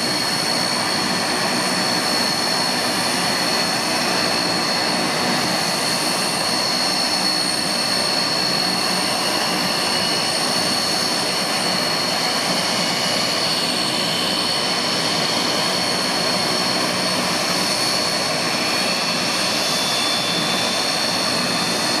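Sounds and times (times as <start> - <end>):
high-pitched turbine whine: 0.0 - 22.0
turboprop engines running: 0.0 - 22.0.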